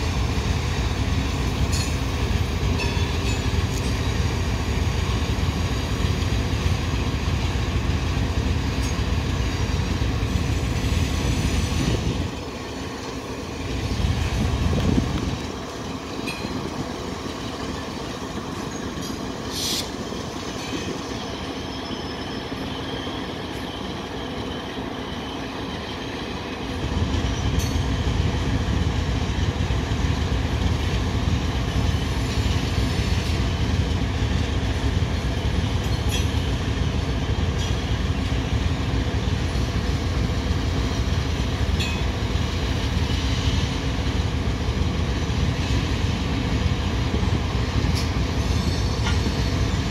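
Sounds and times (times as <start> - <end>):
diesel locomotive: 0.0 - 49.9.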